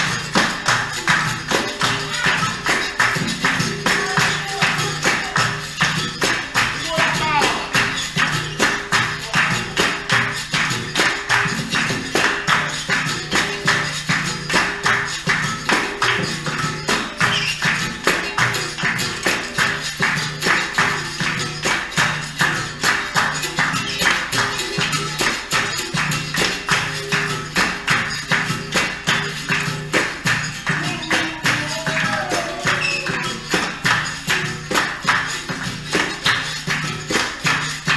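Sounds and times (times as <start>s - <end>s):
drum beats: 0.0s - 37.9s
hand-struck percussion rhythm: 0.0s - 37.9s
tambourine jingles: 0.0s - 37.9s.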